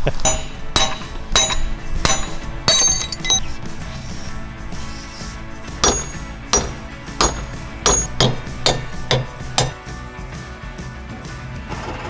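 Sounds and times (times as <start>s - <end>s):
tools striking metal: 0.0s - 9.8s.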